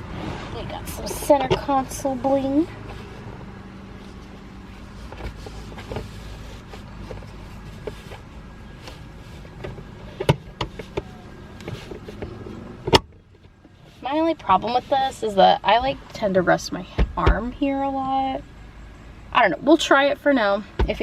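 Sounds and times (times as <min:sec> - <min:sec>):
low hum in car cabin: 0:00.0 - 0:21.0.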